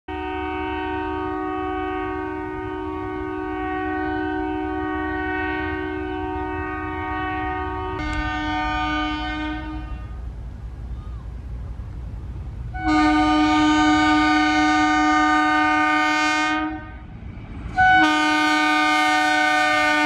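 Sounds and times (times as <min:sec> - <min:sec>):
second train horn blast: 0:00.1 - 0:10.3, 0:12.7 - 0:20.0
train horn: 0:00.1 - 0:10.3, 0:12.7 - 0:20.0.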